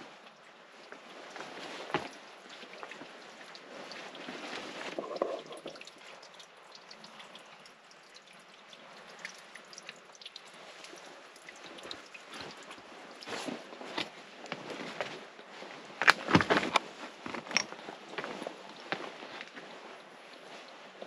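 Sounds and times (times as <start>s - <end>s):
water pouring: 0.0s - 21.0s
water trickling and dripping: 0.0s - 21.0s.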